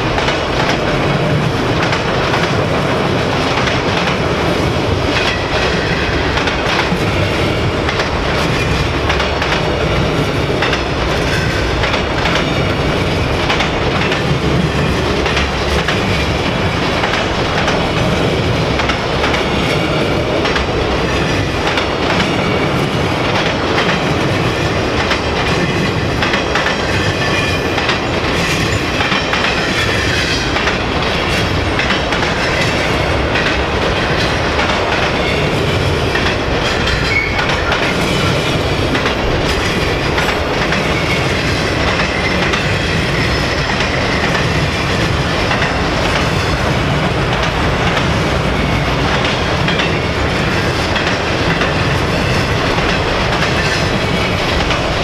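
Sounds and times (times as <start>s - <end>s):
freight train rumbling past: 0.0s - 55.0s
wheels clacking over rail joints: 0.0s - 55.0s.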